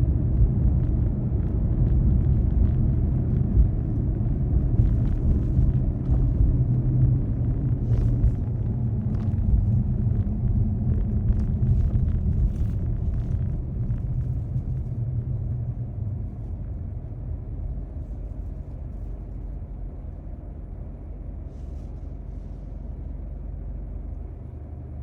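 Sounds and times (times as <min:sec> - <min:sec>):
car road rumble: 0:00.0 - 0:25.0.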